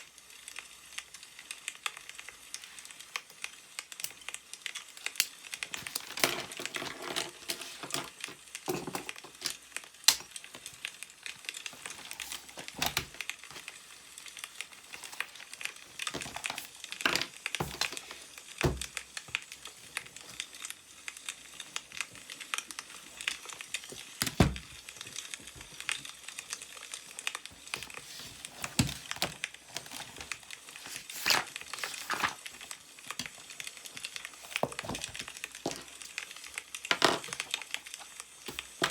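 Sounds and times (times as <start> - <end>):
newspaper pages rustling: 2.5 - 38.9.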